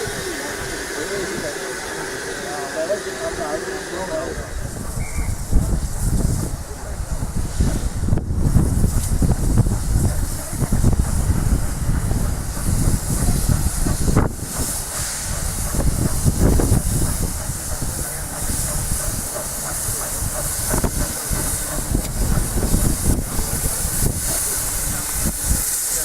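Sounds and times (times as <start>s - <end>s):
railcar rumbling on track: 0.0s - 26.0s
steam hissing: 0.0s - 26.0s.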